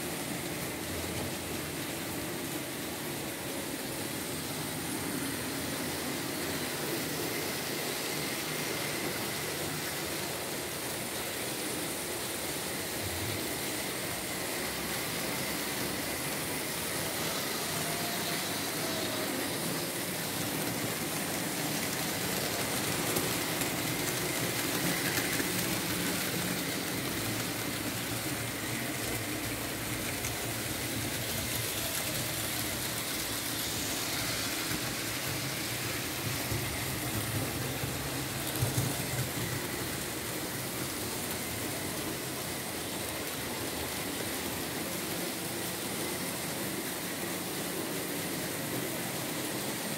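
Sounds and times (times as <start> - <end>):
model train motors whirring: 0.0 - 49.9.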